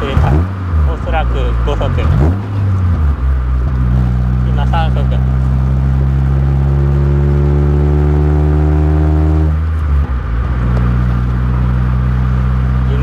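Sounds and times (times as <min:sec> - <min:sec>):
car engine droning in cabin: 0:00.0 - 0:13.0.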